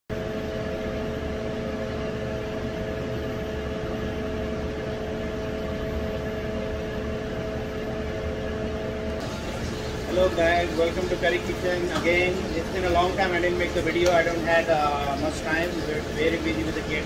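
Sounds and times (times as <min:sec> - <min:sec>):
kitchen ventilation hum: 0:00.2 - 0:17.0.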